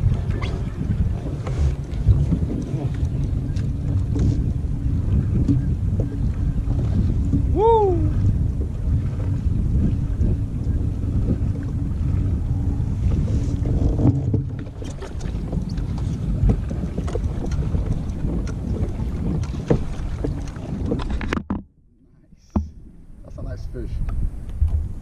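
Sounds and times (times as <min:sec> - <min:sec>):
wind buffeting microphone: 0:00.0 - 0:21.6, 0:22.6 - 0:25.0
water lapping against hull: 0:00.0 - 0:25.0.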